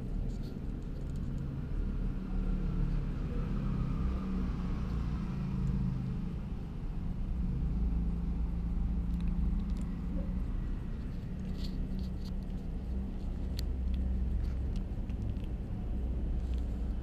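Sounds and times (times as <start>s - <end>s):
engine running low rumble: 0.0s - 17.0s.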